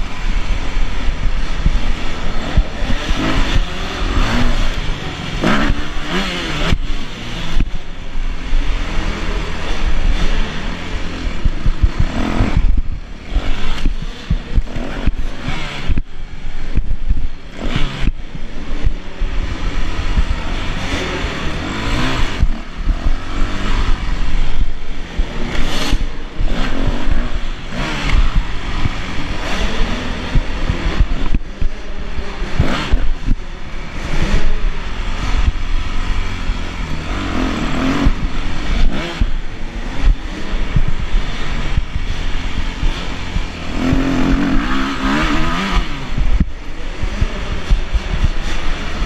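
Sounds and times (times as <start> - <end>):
knocks and rattles from bike: 0.0 - 49.0
motocross engine revving: 0.0 - 49.0.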